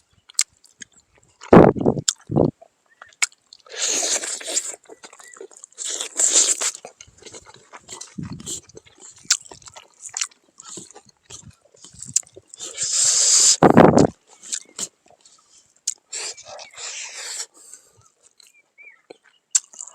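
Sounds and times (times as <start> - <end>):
person chewing food: 0.0 - 19.9.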